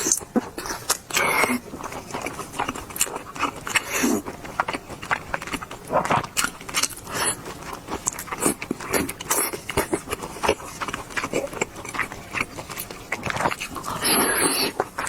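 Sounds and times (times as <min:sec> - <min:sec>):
clicking mouth sounds: 0:00.0 - 0:15.0
person chewing food: 0:00.0 - 0:15.0.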